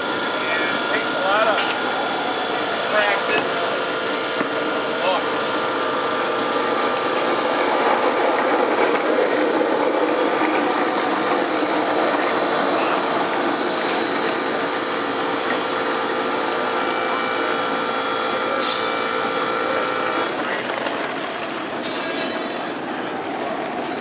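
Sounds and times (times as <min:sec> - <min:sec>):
small jet engine running: 0:00.0 - 0:21.8.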